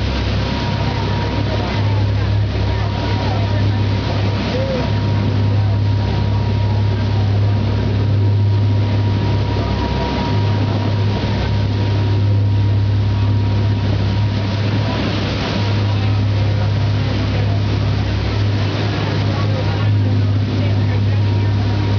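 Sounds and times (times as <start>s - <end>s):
ferry engines droning: 0.0s - 21.9s.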